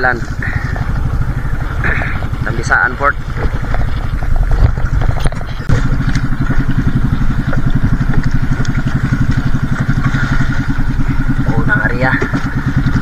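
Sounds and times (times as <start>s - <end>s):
boat engine pulsing: 0.0s - 13.0s.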